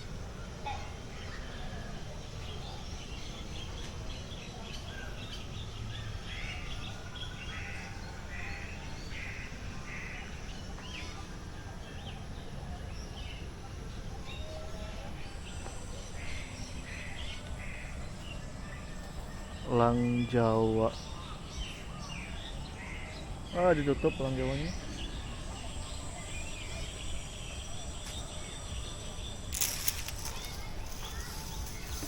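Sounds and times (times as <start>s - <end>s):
birds calling and chirping: 0.0s - 32.0s
low background hum: 0.0s - 32.0s.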